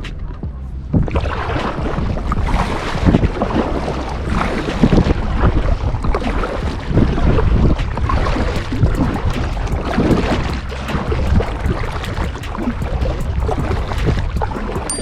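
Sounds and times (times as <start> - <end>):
water splashing around kayak: 0.0 - 15.0
wind buffeting microphone: 0.0 - 15.0.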